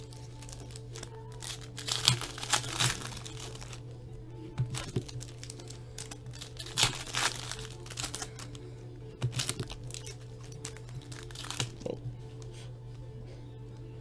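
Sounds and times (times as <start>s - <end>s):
foil wrappers crinkling and tearing: 0.0s - 3.8s, 4.6s - 12.5s
faint background music: 0.0s - 14.0s.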